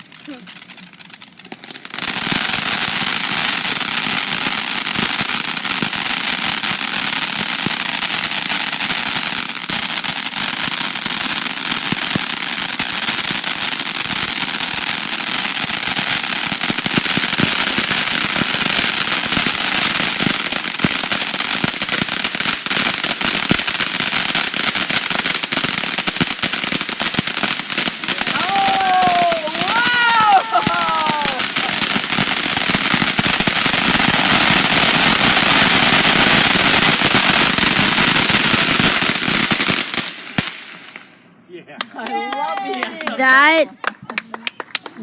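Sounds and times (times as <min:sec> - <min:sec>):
firework sparks hissing and crackling: 0:00.0 - 0:41.2.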